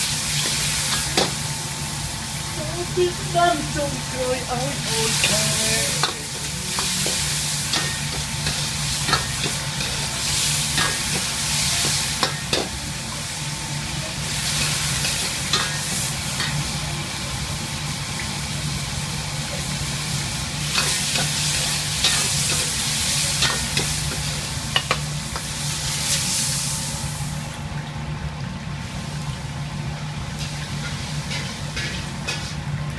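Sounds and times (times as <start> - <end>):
food sizzling in hot oil: 0.0 - 32.9.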